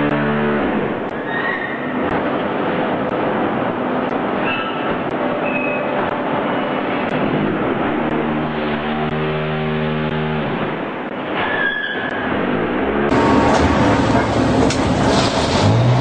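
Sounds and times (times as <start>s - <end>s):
forklift running: 0.0s - 11.4s, 12.4s - 16.0s.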